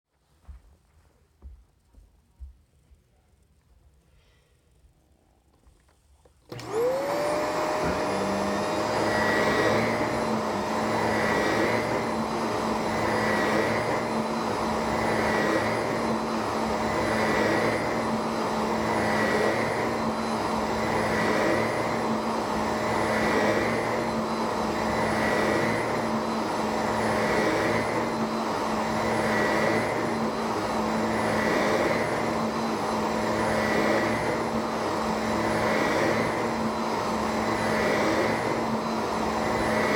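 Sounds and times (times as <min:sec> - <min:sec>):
vacuum cleaner motor whining: 0:05.5 - 0:39.9.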